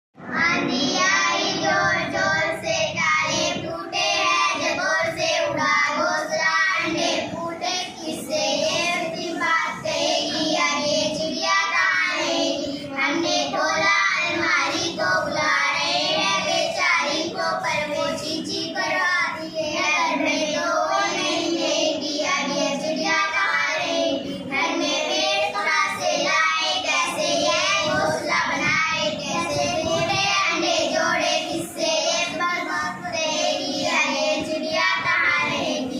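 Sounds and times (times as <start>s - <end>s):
child singing: 0.3s - 35.9s.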